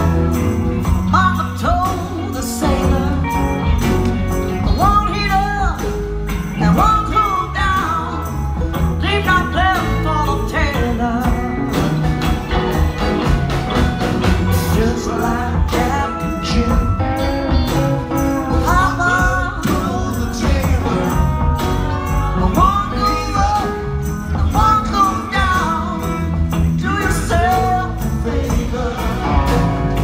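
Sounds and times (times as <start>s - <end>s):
country-rock band playing: 0.0s - 30.0s
woman singing: 1.0s - 4.0s, 4.6s - 11.8s, 14.4s - 21.6s, 22.3s - 29.6s.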